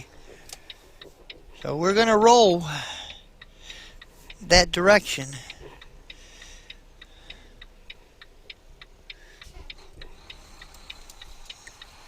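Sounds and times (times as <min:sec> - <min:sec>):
faint low engine hum: 0:00.0 - 0:12.0
turn signal clicking: 0:00.0 - 0:12.0.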